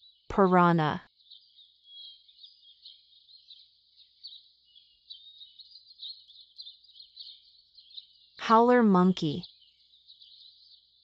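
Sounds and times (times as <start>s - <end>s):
chorus of high chirps: 0.0s - 11.0s.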